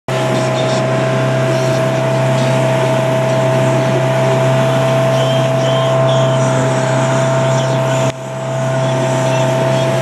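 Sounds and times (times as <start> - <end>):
high engine whine: 0.1 - 10.0
motorboat engine drone: 0.1 - 10.0
rushing water noise: 0.1 - 10.0.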